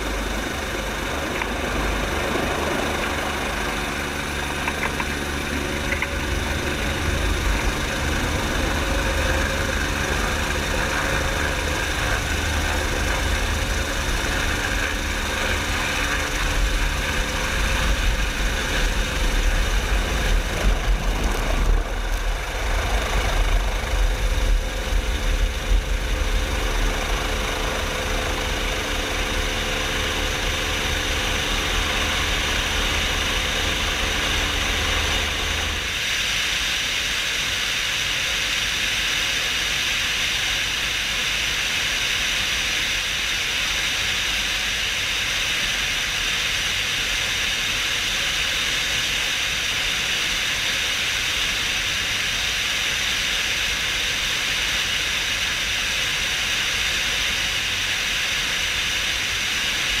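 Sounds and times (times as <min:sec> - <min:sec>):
helicopter rotor and engine throb: 0:00.0 - 1:00.0
wind hissing over microphone: 0:00.0 - 1:00.0.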